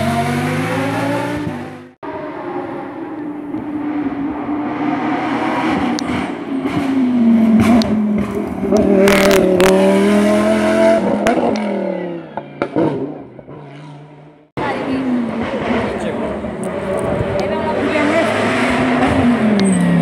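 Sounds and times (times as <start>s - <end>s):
race car engine: 0.0s - 20.0s.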